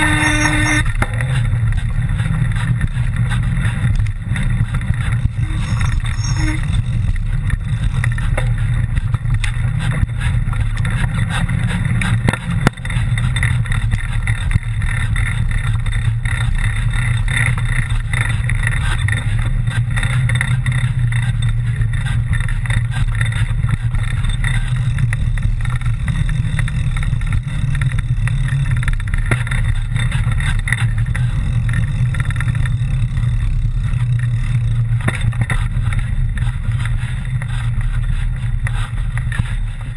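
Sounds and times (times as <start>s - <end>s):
bike knocks and rattles: 0.0s - 39.9s
wind and tyre rumble: 0.0s - 39.9s.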